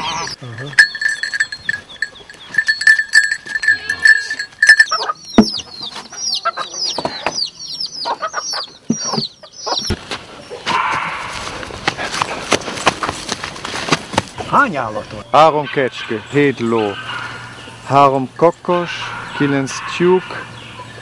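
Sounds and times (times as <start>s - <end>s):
poultry calling: 0.0s - 11.6s, 14.8s - 21.0s.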